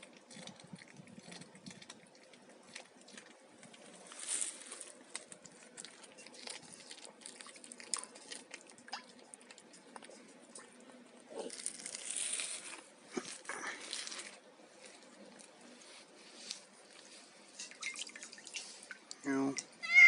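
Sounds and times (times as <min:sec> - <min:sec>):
cat chewing and crunching: 0:00.0 - 0:19.8.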